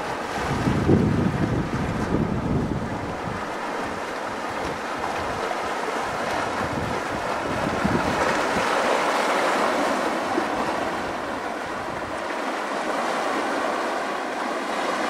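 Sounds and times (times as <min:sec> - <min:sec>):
sea waves breaking on rocks: 0:00.0 - 0:15.0.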